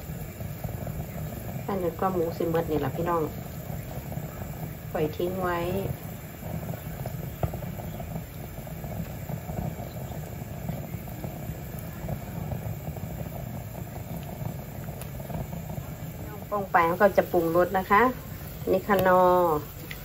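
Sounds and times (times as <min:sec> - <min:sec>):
gas burner flame rumble: 0:00.0 - 0:20.0.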